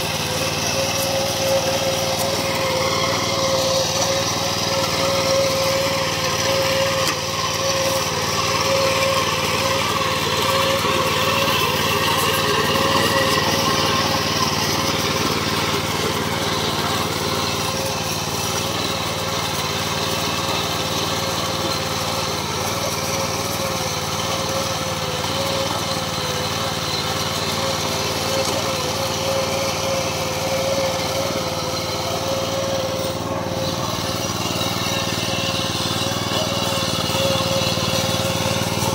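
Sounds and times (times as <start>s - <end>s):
small petrol engine running: 0.0s - 38.9s
tines tilling soil: 0.0s - 38.9s.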